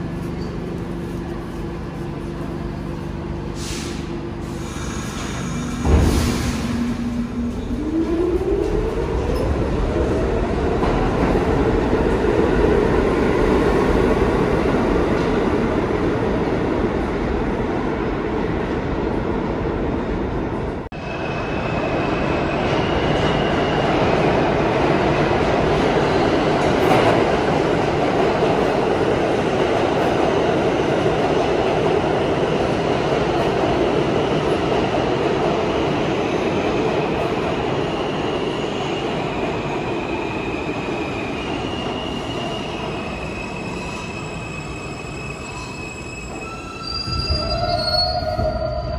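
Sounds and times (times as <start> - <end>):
subway train motors whining: 0.0 - 48.9.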